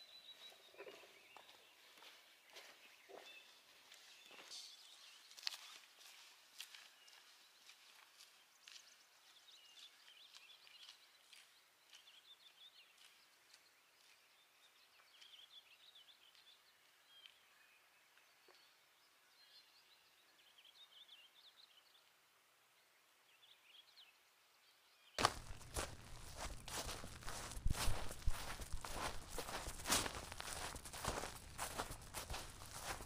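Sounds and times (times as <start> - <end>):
faint songbirds chirping: 0.0 - 33.0.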